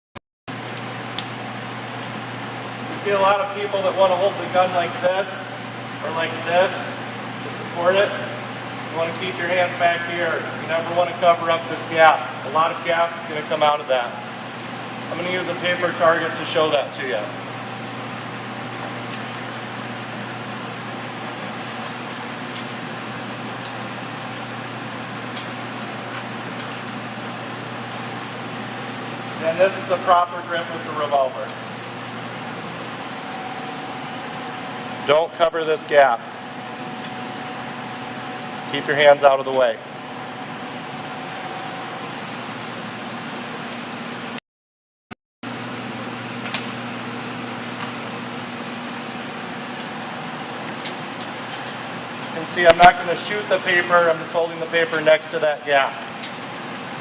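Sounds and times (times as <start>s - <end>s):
fan hum and hiss: 0.5s - 44.4s, 45.5s - 57.0s.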